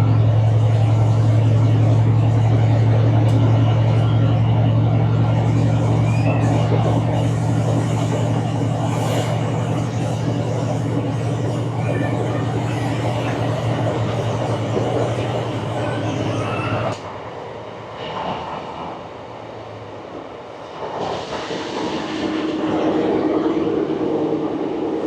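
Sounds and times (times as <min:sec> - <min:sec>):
train carriage drone: 0:00.0 - 0:25.0.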